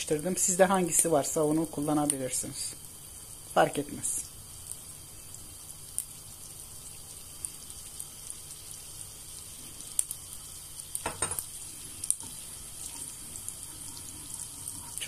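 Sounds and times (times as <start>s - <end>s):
butter sizzling in a pan: 0.0s - 15.0s.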